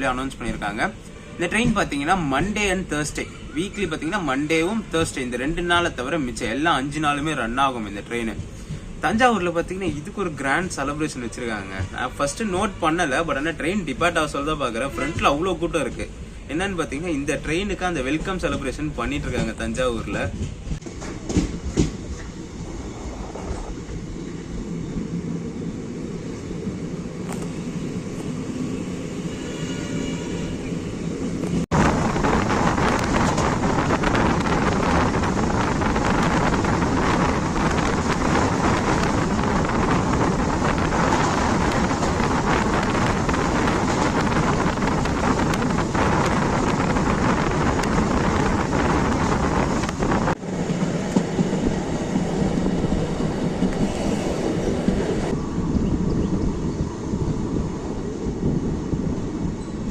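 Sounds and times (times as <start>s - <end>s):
passenger train running on rails: 0.0s - 59.9s.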